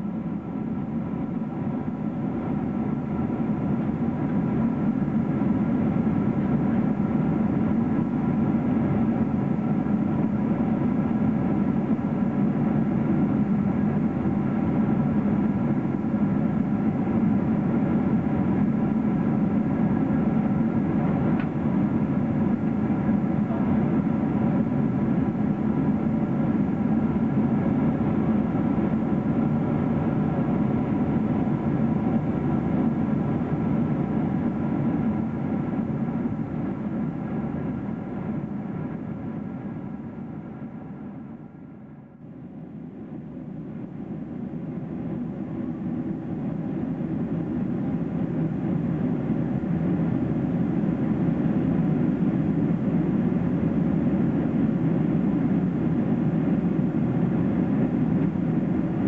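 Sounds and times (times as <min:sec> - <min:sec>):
airplane cabin roar: 0:00.0 - 0:59.0.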